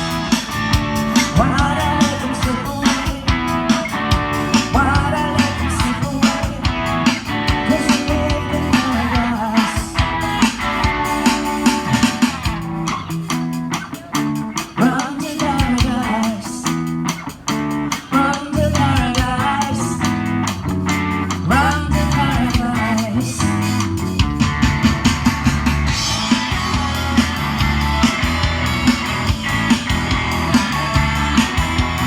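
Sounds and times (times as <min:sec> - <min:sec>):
bass guitar: 0:00.0 - 0:32.0
drum kit: 0:00.0 - 0:32.0
electric guitar lines: 0:00.0 - 0:32.0.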